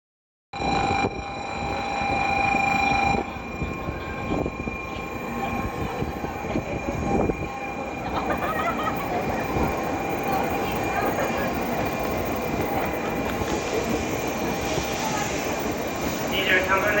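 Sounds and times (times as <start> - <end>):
high whine: 0.6 - 17.0
train rushing rumble: 0.6 - 17.0.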